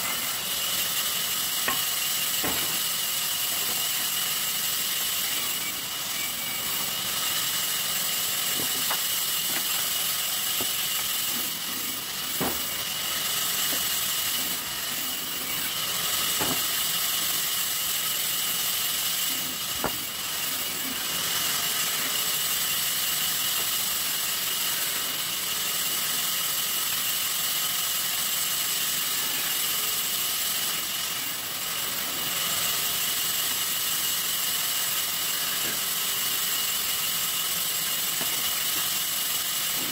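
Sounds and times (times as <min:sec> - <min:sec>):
saw machine hissing and whining: 0:00.0 - 0:39.9.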